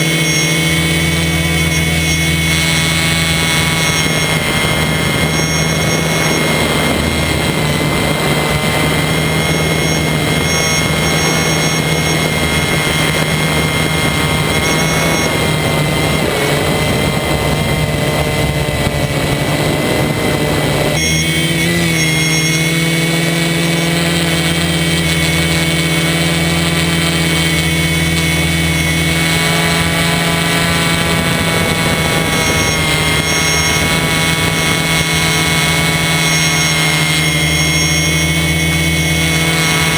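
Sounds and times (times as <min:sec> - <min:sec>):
quadcopter motors buzzing: 0:00.0 - 0:39.9
rushing noise: 0:00.0 - 0:39.9.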